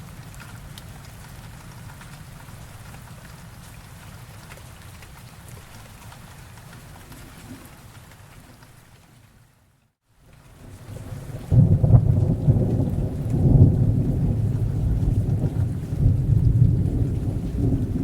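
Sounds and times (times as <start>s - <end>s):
raindrops ticking: 0.0s - 9.4s, 10.2s - 18.0s
steady rain hiss: 0.0s - 18.0s.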